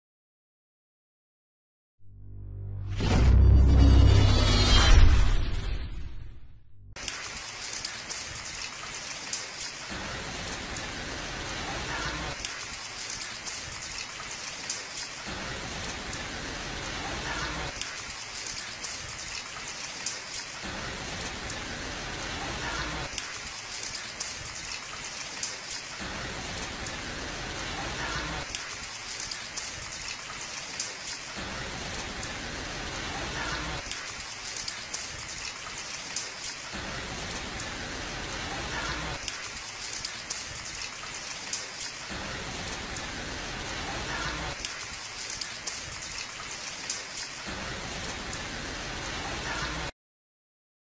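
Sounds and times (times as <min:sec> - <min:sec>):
rain falling on hard ground: 0:07.0 - 0:49.9.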